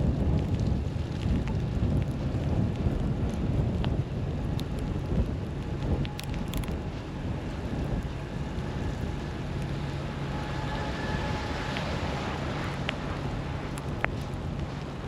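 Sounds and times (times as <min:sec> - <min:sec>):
low mechanical hum: 0:00.0 - 0:15.0
wind noise on microphone: 0:00.0 - 0:15.0.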